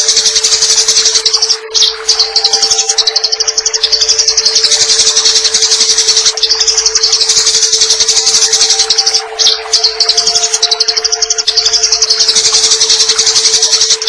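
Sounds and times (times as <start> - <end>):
sparrows chattering harshly: 0.0 - 14.0
steady hum: 0.0 - 14.0.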